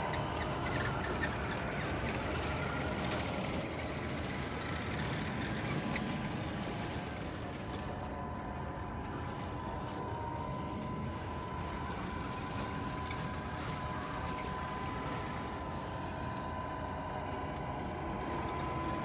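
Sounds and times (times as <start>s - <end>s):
high-pitched motor whine: 0.0s - 19.0s
toy truck mechanical hum: 0.0s - 19.0s.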